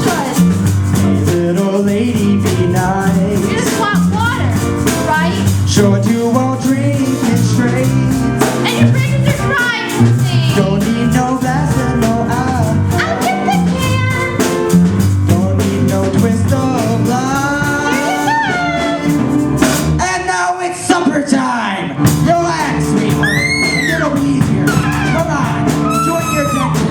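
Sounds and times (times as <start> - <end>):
person singing: 0.0 - 19.3, 20.0 - 26.9
live band playing: 0.0 - 20.2, 21.9 - 26.9
drums keeping a beat: 0.0 - 20.3, 22.0 - 26.9
bass line: 0.0 - 20.5, 22.0 - 26.9.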